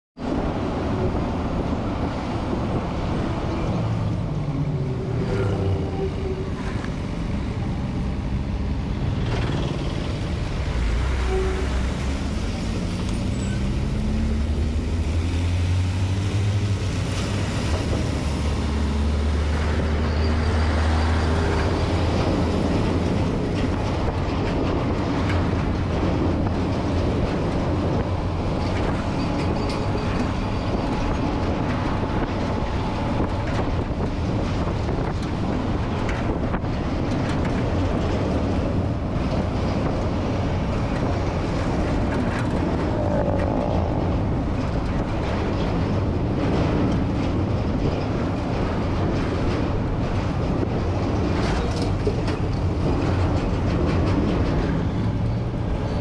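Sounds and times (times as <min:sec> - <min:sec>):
engine and tyre rumble: 0:00.2 - 0:56.0
heavy truck passing: 0:00.2 - 0:56.0.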